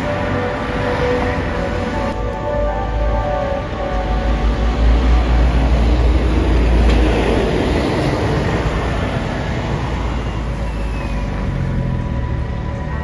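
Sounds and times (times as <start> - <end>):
bus diesel engine rumble: 0.0 - 13.0
tyre and road noise: 0.0 - 13.0.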